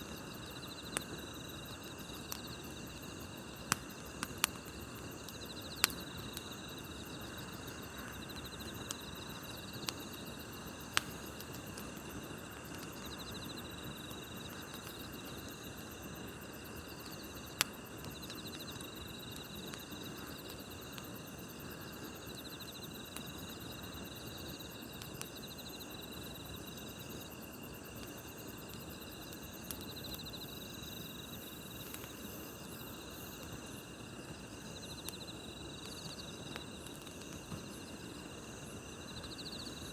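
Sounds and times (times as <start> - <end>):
campfire crackling: 0.0 - 39.9
insects chirping in trills: 0.0 - 39.9.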